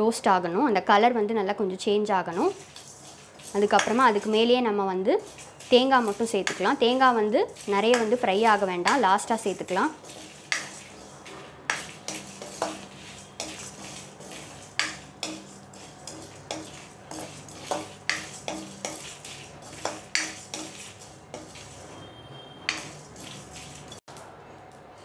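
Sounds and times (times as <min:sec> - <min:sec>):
spatula scraping metal pan: 0:02.3 - 0:04.6, 0:05.2 - 0:24.0
seeds rattling against metal: 0:02.4 - 0:04.5, 0:05.2 - 0:22.0, 0:22.7 - 0:24.0.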